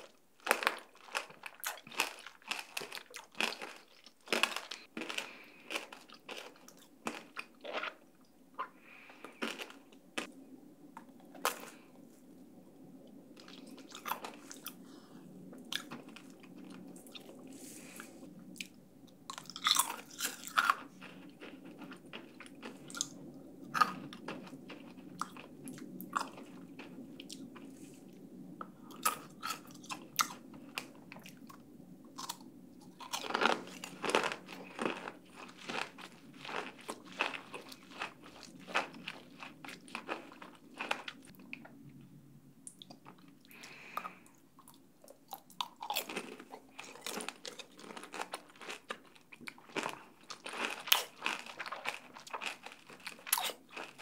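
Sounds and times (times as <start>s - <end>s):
candy shell crunching: 0.0s - 8.2s, 8.9s - 12.0s, 15.5s - 28.1s, 28.7s - 41.3s, 45.4s - 54.0s.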